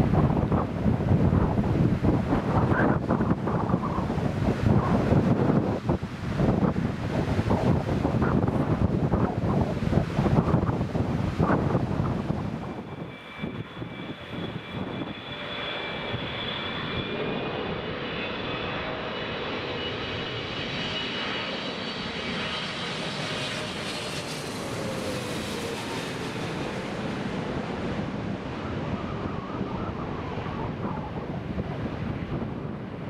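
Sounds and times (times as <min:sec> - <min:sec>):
airliner passing overhead: 0:00.0 - 0:33.0.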